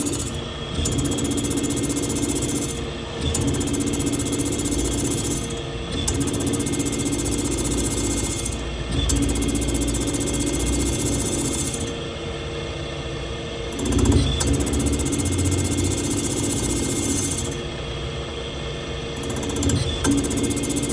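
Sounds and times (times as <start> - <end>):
machine humming and rattling: 0.0 - 20.9.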